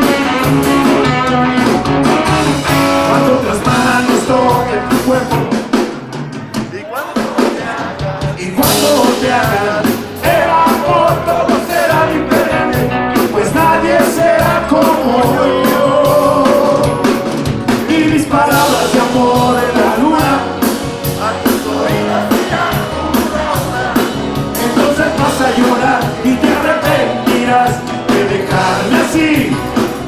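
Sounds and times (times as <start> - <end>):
drum kit beat: 0.0 - 30.0
electric band playing rock: 0.0 - 30.0
male singing: 2.3 - 5.7, 6.7 - 20.5, 21.1 - 30.0.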